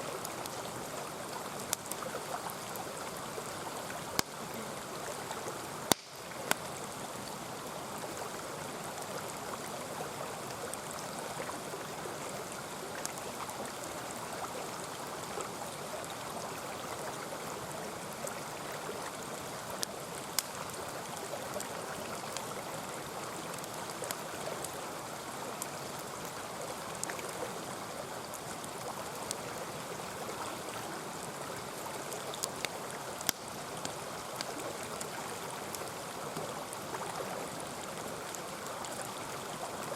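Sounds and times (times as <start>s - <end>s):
mountain stream rushing: 0.0s - 39.9s
campfire popping and crackling: 0.1s - 39.8s.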